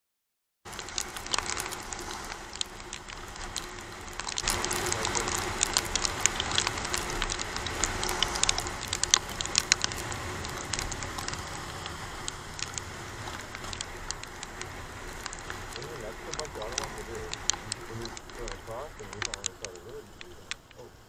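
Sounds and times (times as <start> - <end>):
raindrops ticking on camera: 0.6 - 21.0
wet road spray: 0.7 - 21.0.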